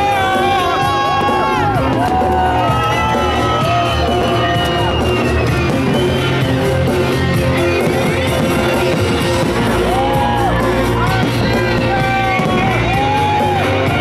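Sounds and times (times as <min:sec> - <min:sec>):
crowd shouting: 0:00.0 - 0:14.0
loud music with gliding notes: 0:00.0 - 0:14.0.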